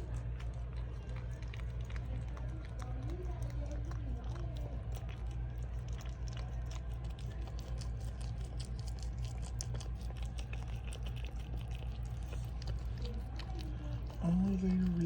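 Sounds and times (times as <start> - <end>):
dog licking and chewing: 0.0 - 15.0
steady low hum: 0.0 - 15.0.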